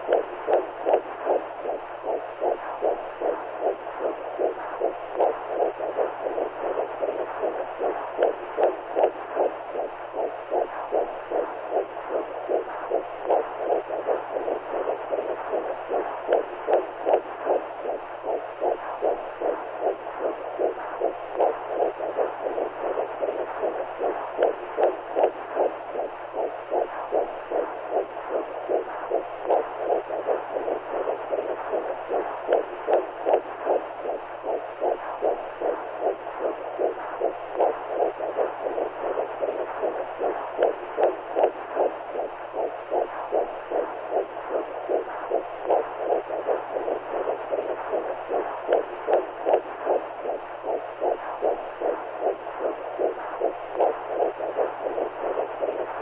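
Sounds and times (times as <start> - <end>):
rhythmic whooshing heartbeat pulses: 0.0 - 56.0
steady low hum: 0.0 - 56.0.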